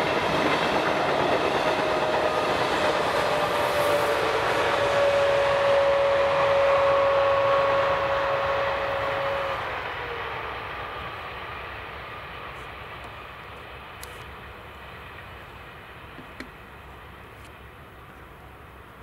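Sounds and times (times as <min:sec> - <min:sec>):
train high whine: 0:00.0 - 0:19.0
train rumble: 0:00.0 - 0:19.0.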